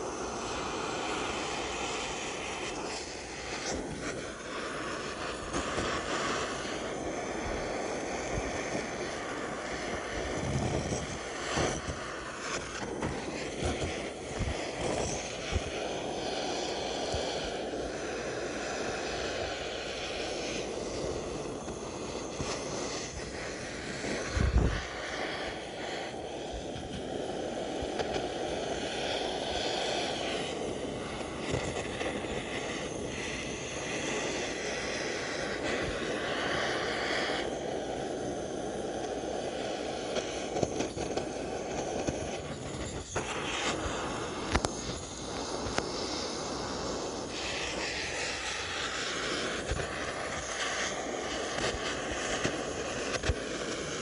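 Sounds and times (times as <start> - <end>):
fire burning with rushing noise: 0.0 - 54.0
fire popping: 0.0 - 54.0.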